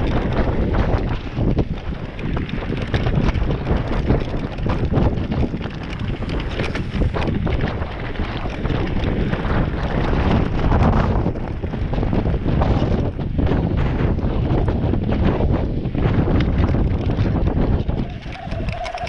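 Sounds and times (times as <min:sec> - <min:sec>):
bike clicks and rattles: 0:00.0 - 0:19.0
tyres rumbling on dirt: 0:00.0 - 0:19.0
wind buffeting microphone: 0:00.0 - 0:19.0.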